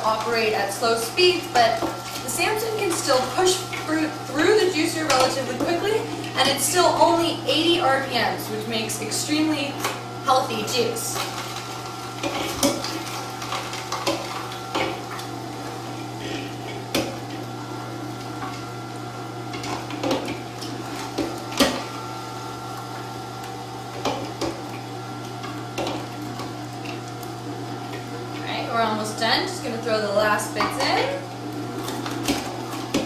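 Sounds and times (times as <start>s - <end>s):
juicer motor hum: 0.0s - 33.0s.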